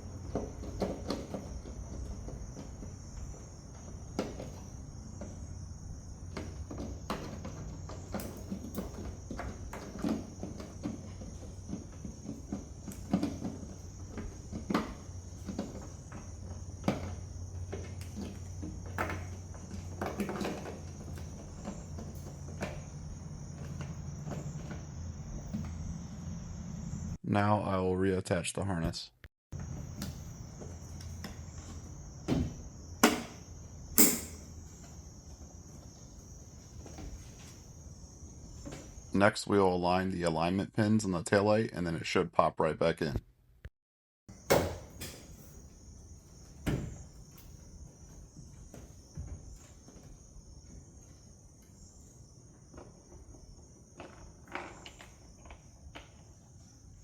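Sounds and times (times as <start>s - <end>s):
cricket chirping: 0.0s - 27.2s, 29.5s - 39.3s, 44.3s - 57.0s.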